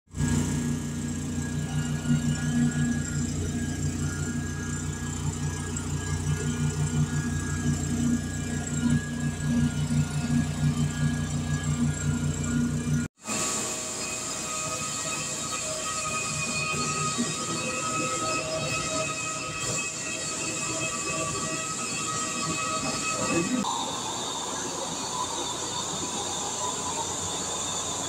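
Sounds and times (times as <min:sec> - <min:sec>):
carpet cleaning machine humming: 0:00.1 - 0:28.0.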